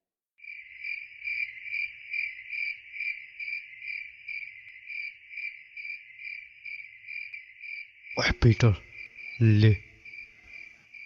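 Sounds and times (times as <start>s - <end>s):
crickets chirping: 0.4s - 11.0s.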